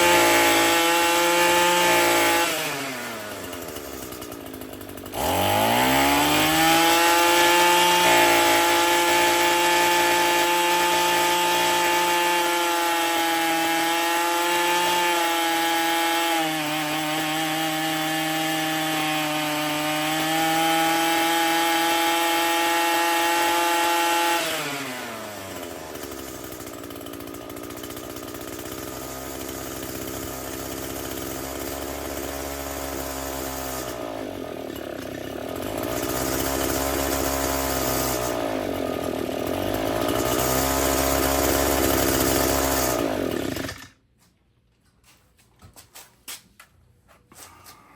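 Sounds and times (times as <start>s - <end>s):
string trimmer engine revving: 0.0s - 44.0s.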